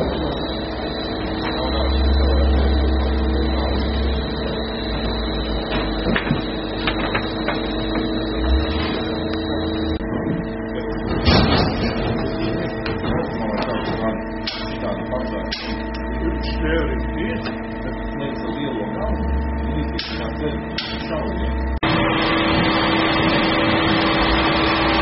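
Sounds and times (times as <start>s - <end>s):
high machine whine: 0.0s - 25.0s
machinery hum: 0.0s - 25.0s.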